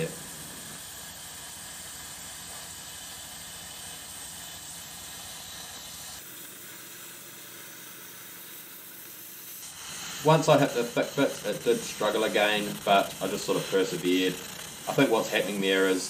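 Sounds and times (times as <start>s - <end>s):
plasma cutter hissing: 0.0s - 16.0s.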